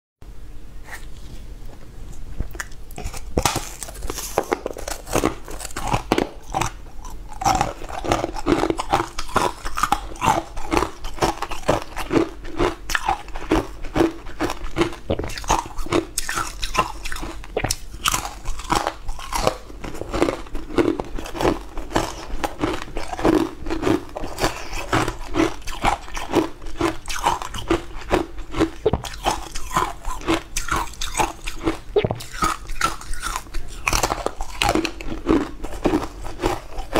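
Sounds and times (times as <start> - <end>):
person chewing crunchy food: 2.2 - 36.9.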